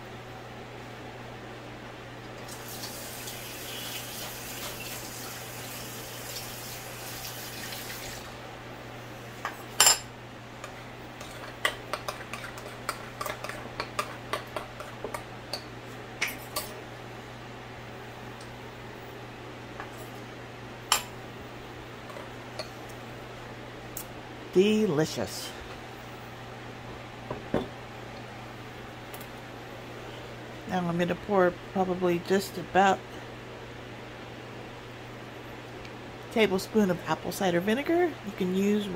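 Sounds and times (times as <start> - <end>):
electric fan humming: 0.0 - 38.9.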